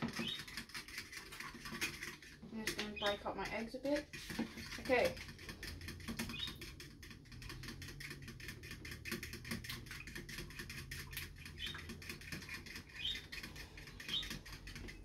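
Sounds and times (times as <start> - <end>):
fork whisking eggs in bowl: 0.0 - 15.0.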